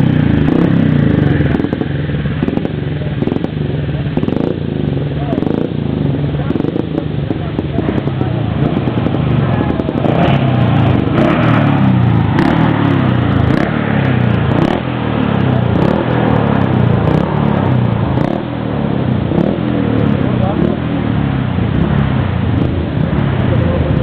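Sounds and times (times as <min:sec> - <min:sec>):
engine accelerating through gears: 0:00.0 - 0:24.0.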